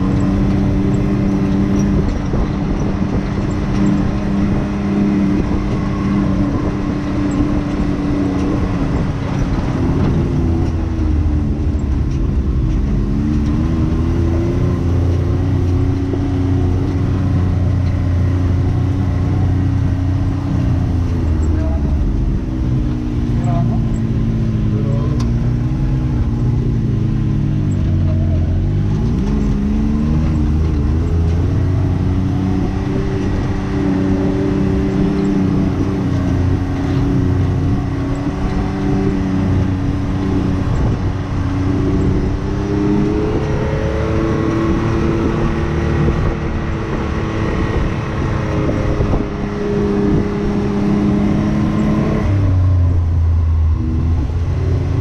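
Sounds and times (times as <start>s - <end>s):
engine revving on dirt trail: 0.0s - 55.0s.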